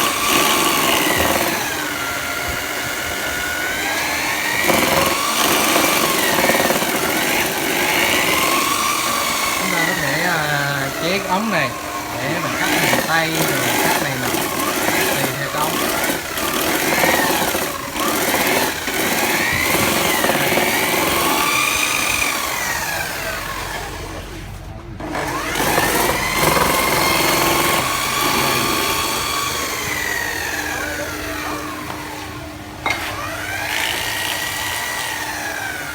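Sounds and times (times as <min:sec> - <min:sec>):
electric drill motor whine: 0:00.0 - 0:35.9.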